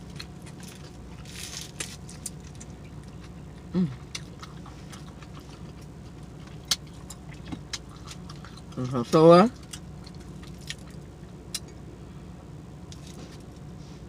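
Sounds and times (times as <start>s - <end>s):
chewing and mouth smacking: 0.0s - 11.8s.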